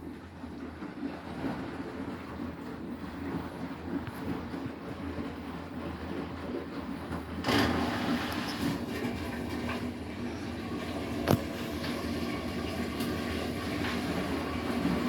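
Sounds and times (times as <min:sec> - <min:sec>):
washing machine drum rumbling: 0:00.1 - 0:15.0.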